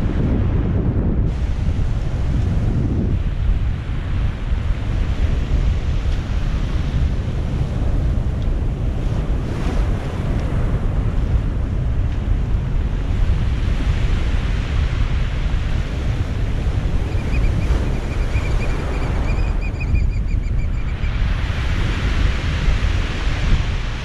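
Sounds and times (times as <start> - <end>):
surf breaking on cobble beach: 0.0 - 19.6, 21.0 - 24.0
wind rumble on microphone: 0.0 - 24.0.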